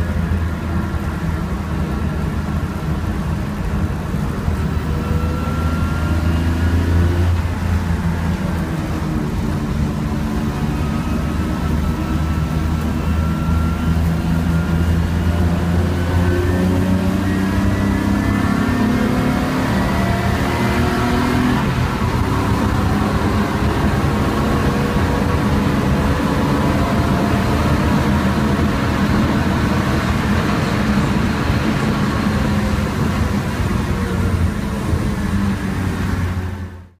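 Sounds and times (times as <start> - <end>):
race car engine running hard: 0.0 - 37.0
road noise: 0.0 - 37.0.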